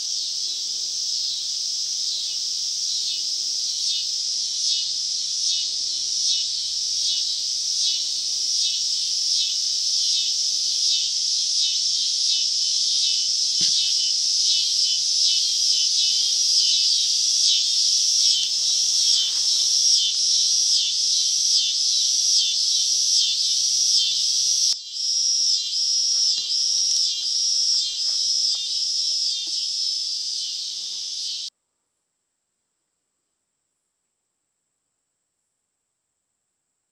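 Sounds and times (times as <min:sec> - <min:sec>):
insects chirring: 0:00.0 - 0:31.5.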